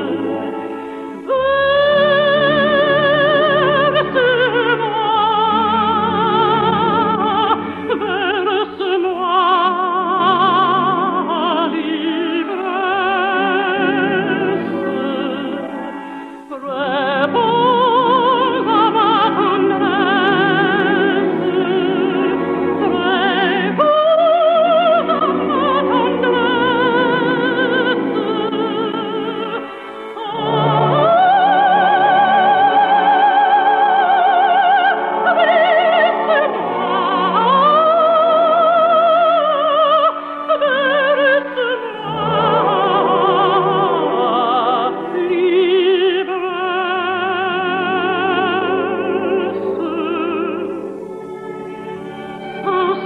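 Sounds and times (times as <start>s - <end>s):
operatic singing with vibrato: 0.0s - 53.0s
studio orchestra: 0.0s - 53.0s.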